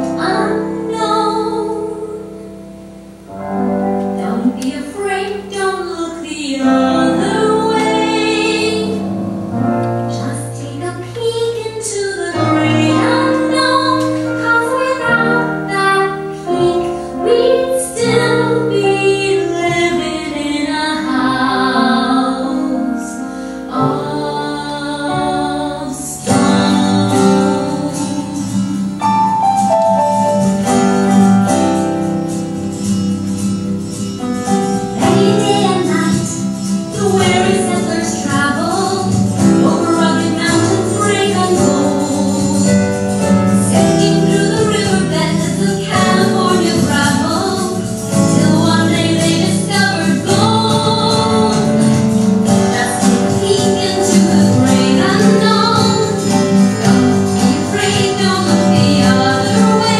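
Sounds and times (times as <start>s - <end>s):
woman singing: 0.0s - 2.5s, 4.1s - 9.2s, 10.1s - 29.1s, 34.9s - 59.9s
instrumental backing: 0.0s - 59.9s.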